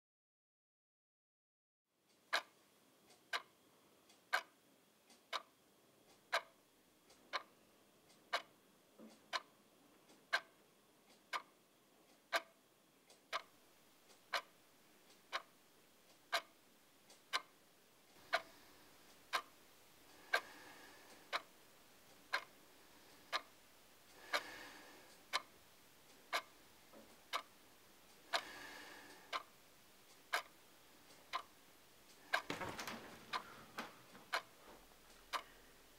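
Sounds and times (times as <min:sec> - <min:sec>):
faint steady background noise: 0:01.9 - 0:35.9
clock ticking: 0:02.1 - 0:35.9.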